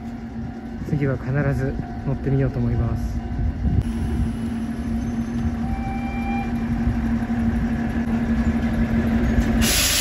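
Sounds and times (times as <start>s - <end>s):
diesel locomotive idling: 0.0s - 10.0s.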